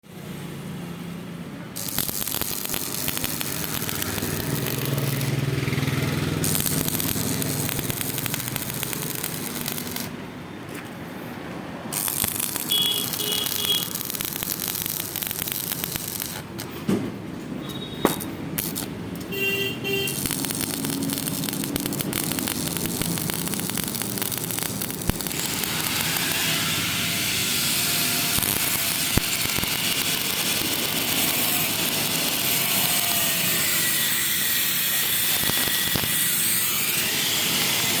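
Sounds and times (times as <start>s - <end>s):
arc welding crackle and hiss: 1.8s - 10.2s, 11.1s - 16.8s, 17.7s - 38.0s.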